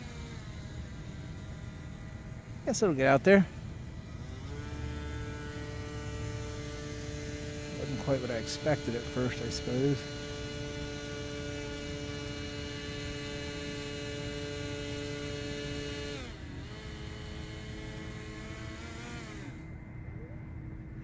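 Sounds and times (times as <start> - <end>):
airboat motor and propeller humming: 0.0 - 21.0.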